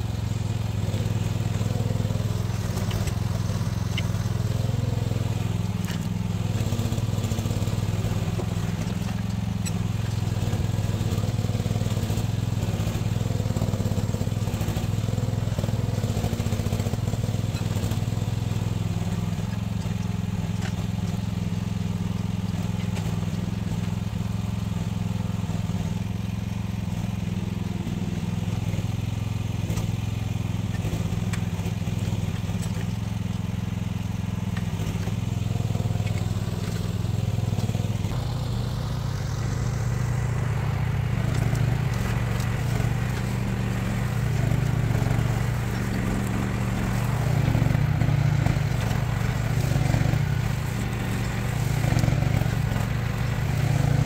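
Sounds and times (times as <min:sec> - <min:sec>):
mini excavator engine running: 0:00.0 - 0:54.0.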